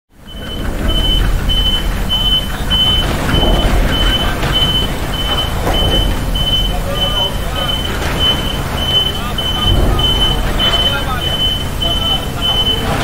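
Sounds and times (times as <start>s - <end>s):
truck reversing alarm beeping: 0.1s - 13.0s.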